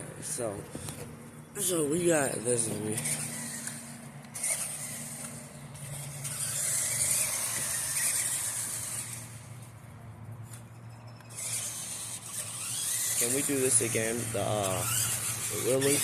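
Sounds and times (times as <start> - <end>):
rc truck motor whining: 0.0 - 9.8, 10.4 - 16.0.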